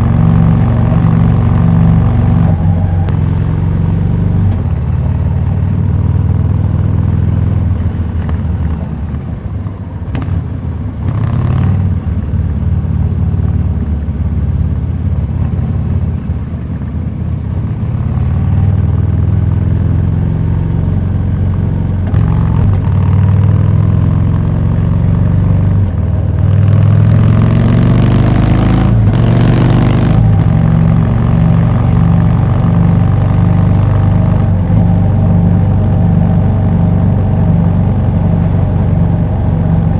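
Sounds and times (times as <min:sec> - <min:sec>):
motorcycle engine revving: 0:00.0 - 0:09.3, 0:10.1 - 0:16.8, 0:17.6 - 0:39.9.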